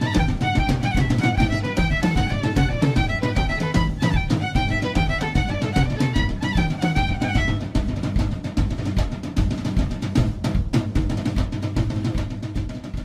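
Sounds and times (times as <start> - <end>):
fast drumming on snare and bass: 0.0 - 13.0.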